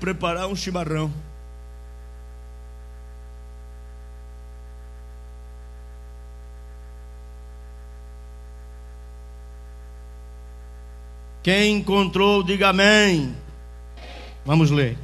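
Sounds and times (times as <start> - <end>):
buzzing mains hum: 0.0 - 15.0.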